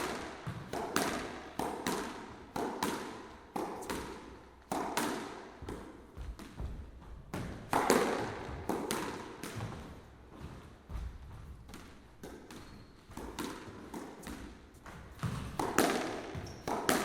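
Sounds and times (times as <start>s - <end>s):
ball hitting court walls: 0.0s - 17.0s
squash racket strikes: 0.0s - 17.0s.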